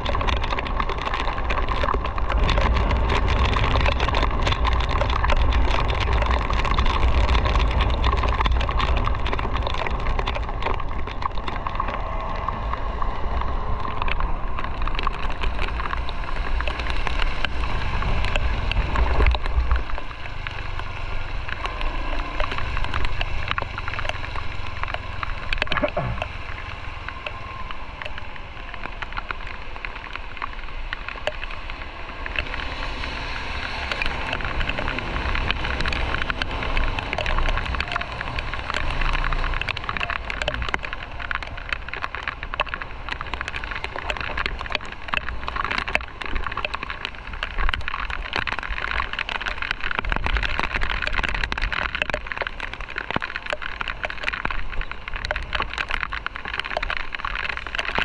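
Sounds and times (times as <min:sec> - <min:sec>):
raindrops ticking on camera: 0:00.0 - 0:58.0
wind rumble: 0:00.0 - 0:58.0.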